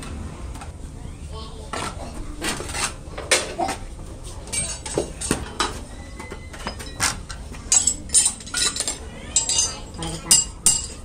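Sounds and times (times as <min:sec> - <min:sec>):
metal tools clinking and scraping: 0:01.8 - 0:11.0.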